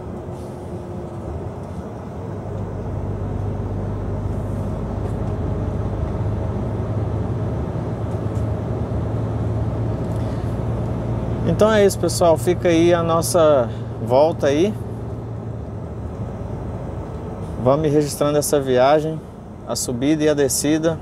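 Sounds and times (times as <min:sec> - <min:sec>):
road noise: 0:00.0 - 0:21.0
truck diesel engine drone: 0:00.0 - 0:21.0.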